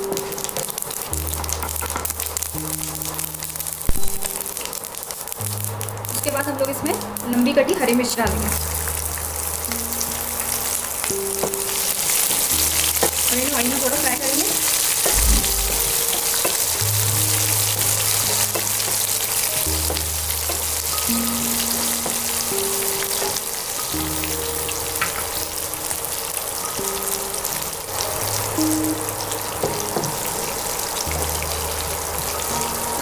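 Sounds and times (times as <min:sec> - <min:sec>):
background music with low notes: 0:00.0 - 0:33.0
chillies sizzling in hot oil: 0:00.0 - 0:33.0.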